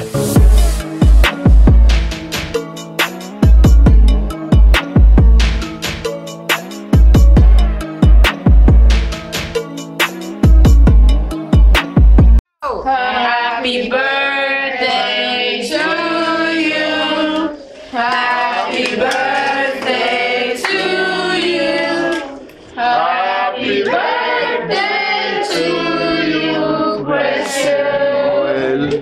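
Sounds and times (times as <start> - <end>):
group of people singing: 0.4 - 12.0, 12.8 - 29.0.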